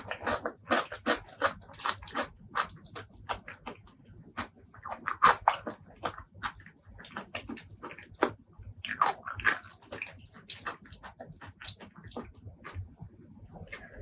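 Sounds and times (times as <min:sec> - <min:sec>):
chewing and biting food: 0:00.0 - 0:14.0.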